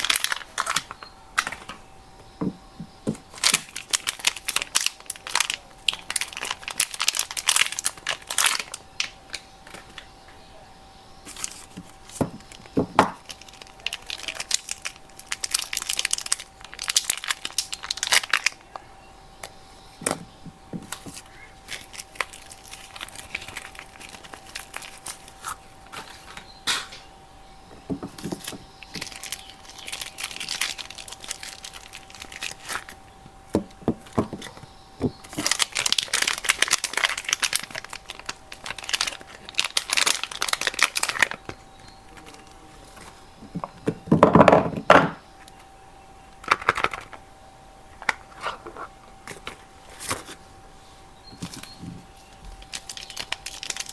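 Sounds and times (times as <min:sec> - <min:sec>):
wrapper crinkling and tearing: 0:00.0 - 0:01.7, 0:03.2 - 0:10.0, 0:11.3 - 0:18.8, 0:20.0 - 0:26.4, 0:28.0 - 0:43.9, 0:46.4 - 0:47.2, 0:48.0 - 0:50.4, 0:51.3 - 0:53.9.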